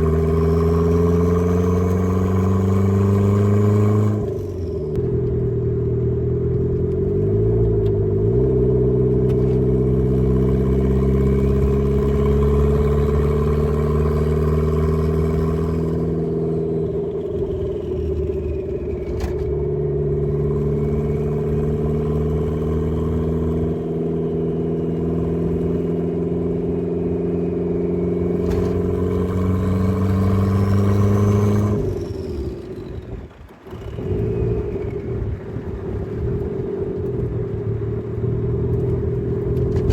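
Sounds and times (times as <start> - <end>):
car engine pulling: 0.0 - 39.9.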